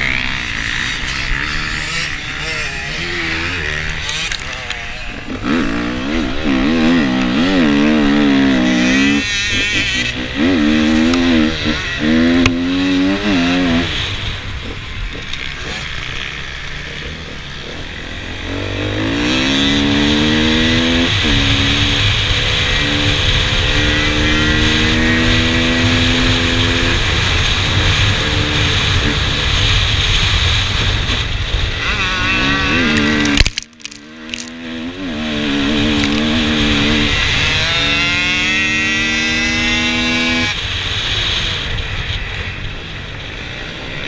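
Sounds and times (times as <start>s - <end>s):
two-stroke motorcycle revving: 0.0s - 44.0s.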